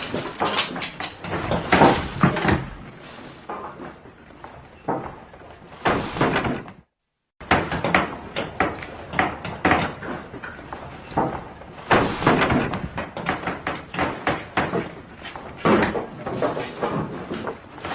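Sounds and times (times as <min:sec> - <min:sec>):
wood and tools knocking and clattering: 0:00.0 - 0:06.8, 0:07.4 - 0:17.9.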